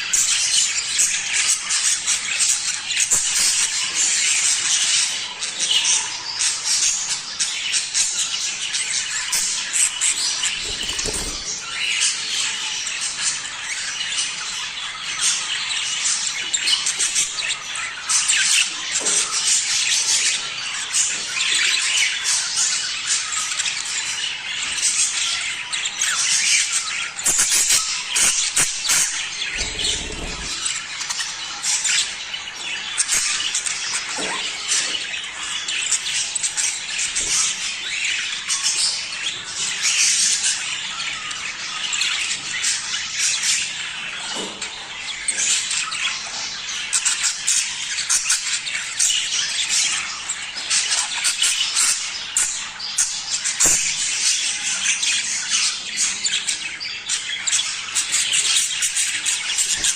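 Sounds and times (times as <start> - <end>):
budgerigars chattering and warbling: 0.0 - 59.9.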